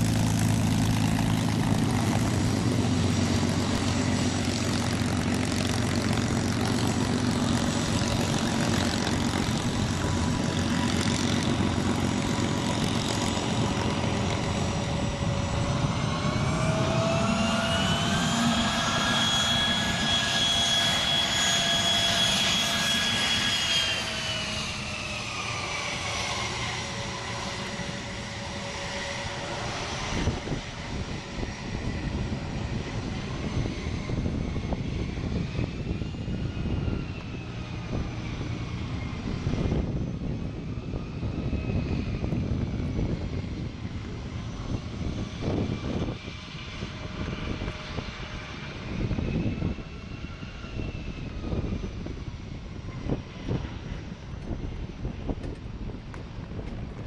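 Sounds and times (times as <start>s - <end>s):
aircraft engine drone: 0.0s - 57.0s
high whine: 0.0s - 57.0s.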